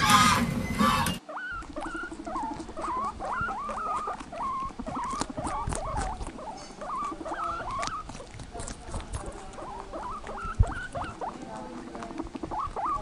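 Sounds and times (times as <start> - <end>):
paws pattering on grass: 1.5 - 13.0.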